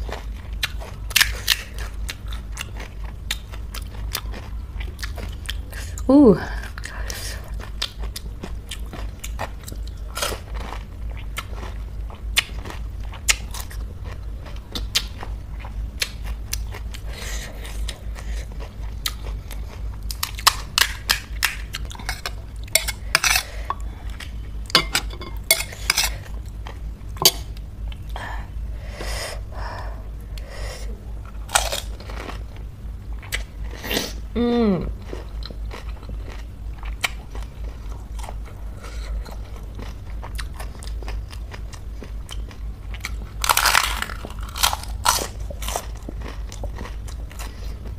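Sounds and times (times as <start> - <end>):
crunchy chewing: 0.0 - 6.0, 6.8 - 28.2, 31.2 - 33.8, 35.0 - 47.9.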